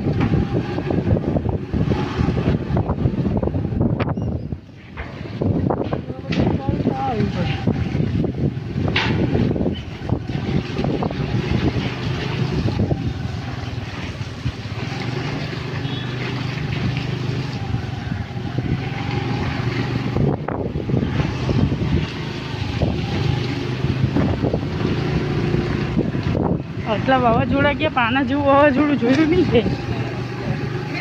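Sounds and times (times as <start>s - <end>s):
vehicle engine humming: 0.0s - 31.0s
wind noise on microphone: 0.0s - 31.0s.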